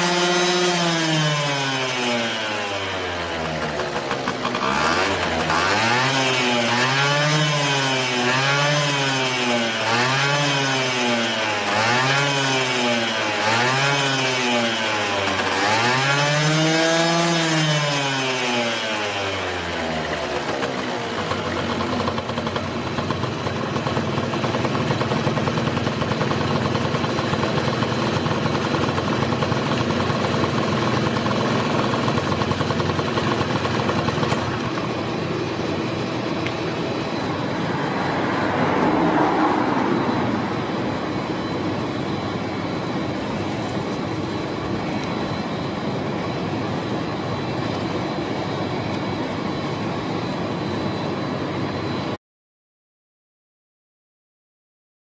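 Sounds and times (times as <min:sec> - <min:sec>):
scooter engine revving and idling: 0:00.0 - 0:47.2.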